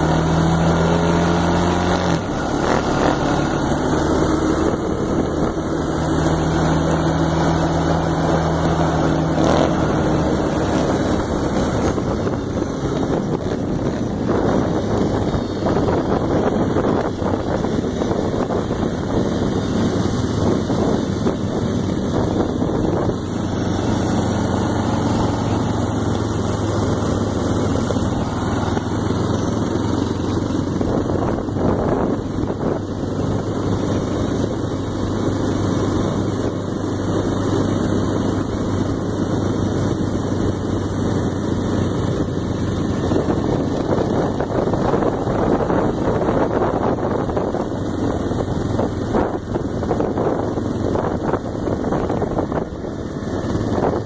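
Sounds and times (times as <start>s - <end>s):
quad engines running: 0.0s - 54.0s
wind on microphone: 0.0s - 54.0s.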